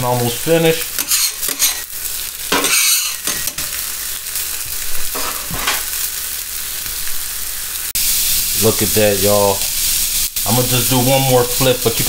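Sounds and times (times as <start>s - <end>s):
chicken sizzling on griddle: 0.0s - 12.0s.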